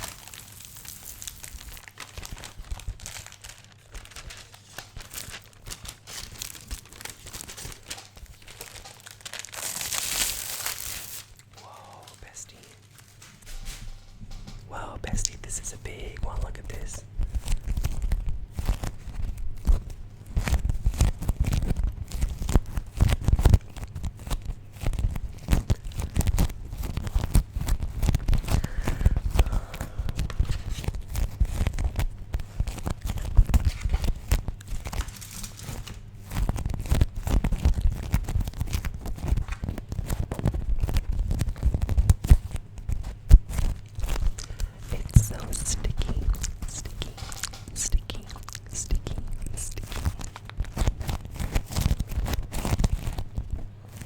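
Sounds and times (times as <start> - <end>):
wax wraps crinkling: 0.0 - 54.0.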